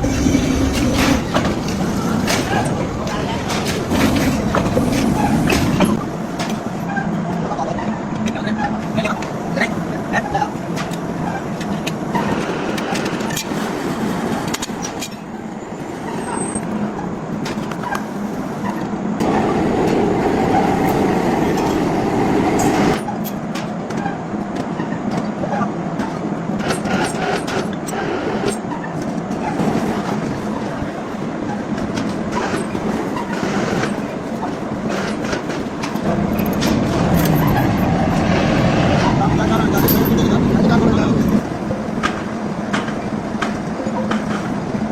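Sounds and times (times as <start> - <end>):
heavy machinery hum: 0.0 - 44.9.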